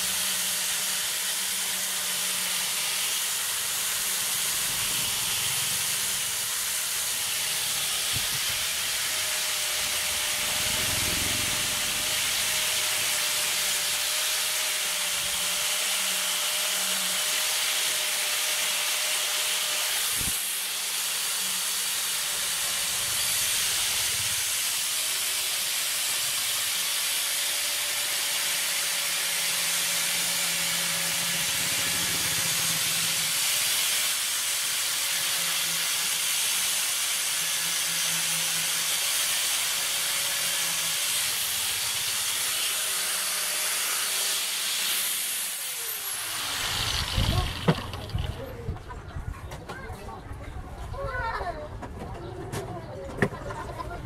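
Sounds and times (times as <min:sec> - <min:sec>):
angle grinder grinding steel: 0:00.0 - 0:48.6.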